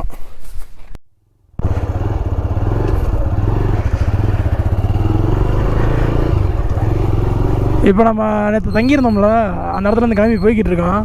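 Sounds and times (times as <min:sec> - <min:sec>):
motorcycle engine running: 0:01.6 - 0:11.0.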